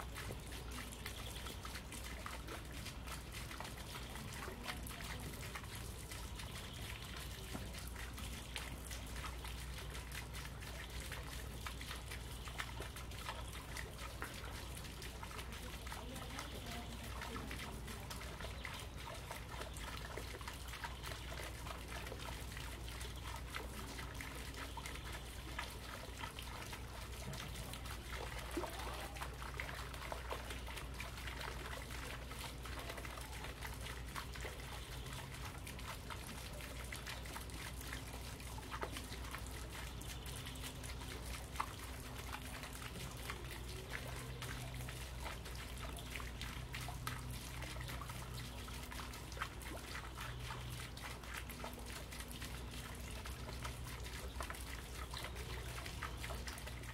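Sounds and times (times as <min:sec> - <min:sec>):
fountain trickling into pond: 0:00.0 - 0:56.9.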